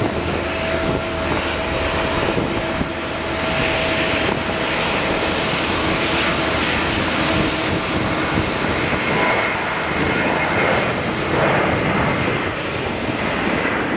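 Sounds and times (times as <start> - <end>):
jet engines rushing: 0.0 - 13.9.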